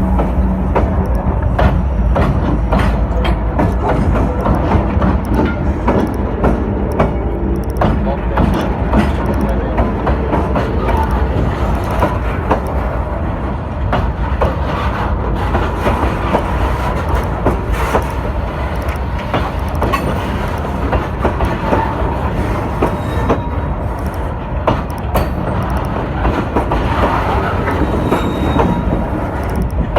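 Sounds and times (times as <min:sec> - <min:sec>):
train rumbling on rails: 0:00.0 - 0:29.9.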